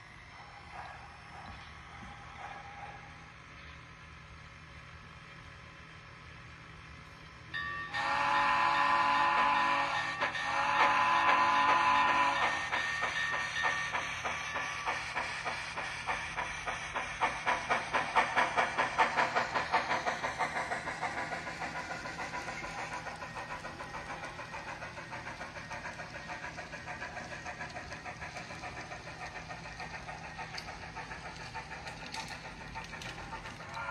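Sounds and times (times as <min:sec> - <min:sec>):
model steam locomotive chuffing: 0:00.0 - 0:33.9.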